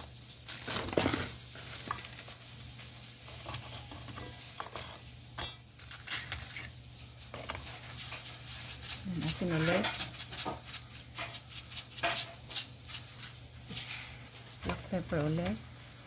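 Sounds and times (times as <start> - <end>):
wet fish fillets rustling: 0.0 - 16.0.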